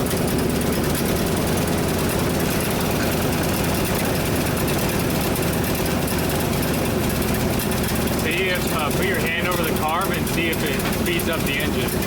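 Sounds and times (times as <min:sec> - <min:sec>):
truck engine idling roughly: 0:00.0 - 0:12.0.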